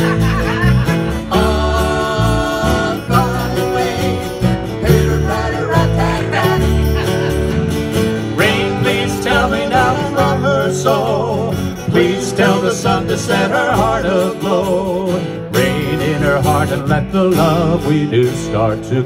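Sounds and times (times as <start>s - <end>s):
electric guitar: 0.0s - 19.0s
pop band instrumental: 0.0s - 19.0s.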